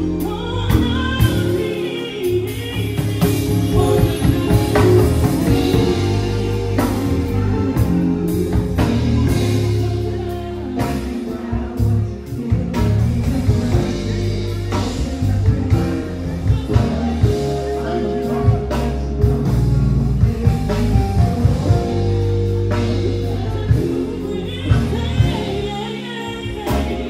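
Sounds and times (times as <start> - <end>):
band playing slow groove: 0.0 - 27.0
long held lead melody: 0.0 - 27.0.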